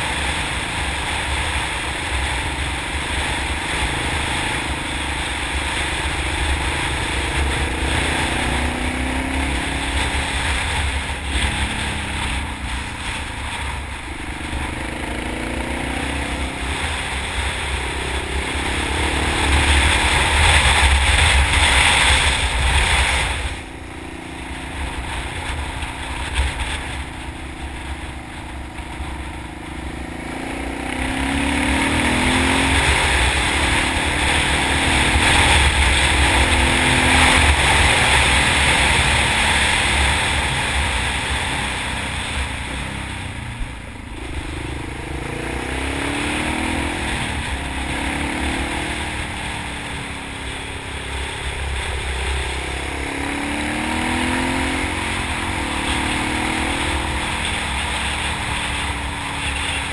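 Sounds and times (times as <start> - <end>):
motorcycle engine revving: 0.0 - 59.9
wind rushing over microphone: 0.0 - 59.9.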